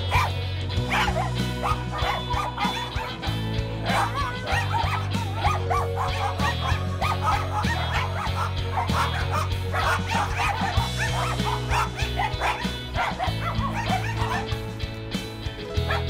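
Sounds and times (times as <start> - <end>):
dogs barking and yelping: 0.0 - 15.1, 15.7 - 16.0
background music: 0.0 - 16.0.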